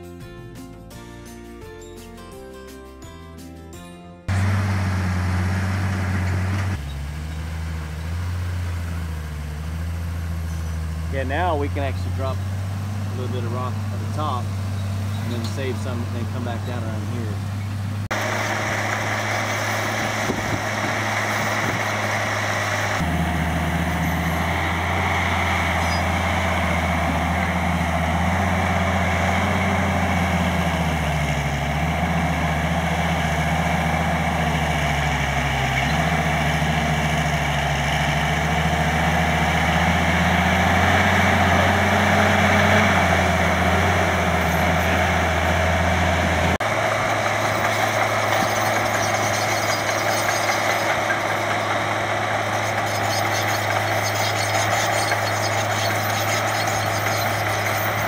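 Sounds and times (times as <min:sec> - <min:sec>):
bulldozer diesel engine running: 0:04.2 - 0:58.0.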